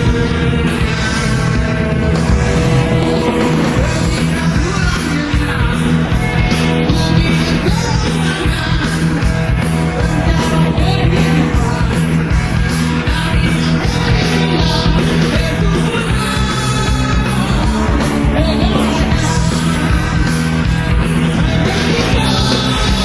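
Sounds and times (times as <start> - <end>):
rock music with singing: 0.0 - 23.0.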